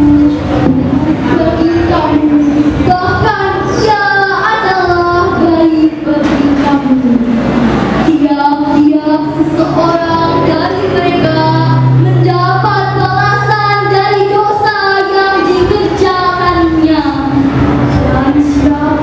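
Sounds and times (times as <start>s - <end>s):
girl chanting melodically: 0.0s - 7.3s, 8.0s - 19.0s
low steady hum: 0.0s - 19.0s.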